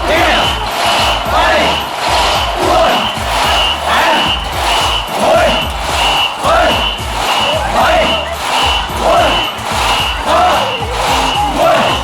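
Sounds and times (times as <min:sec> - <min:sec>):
low thuds: 0:00.0 - 0:12.0
whistle short blasts: 0:00.2 - 0:12.0.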